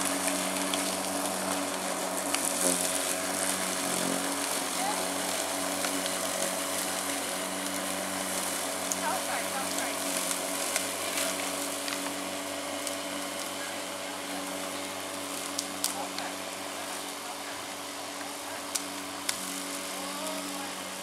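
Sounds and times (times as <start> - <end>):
electric lawn mower running: 0.0 - 21.0.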